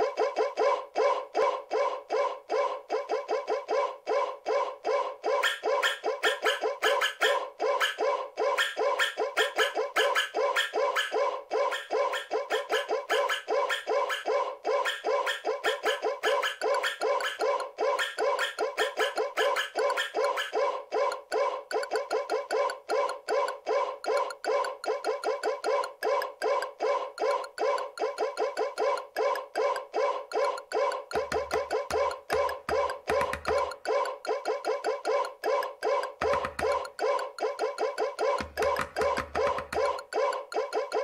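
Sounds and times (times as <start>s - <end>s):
synthesizer loop with clipped notes: 5.1s - 41.0s.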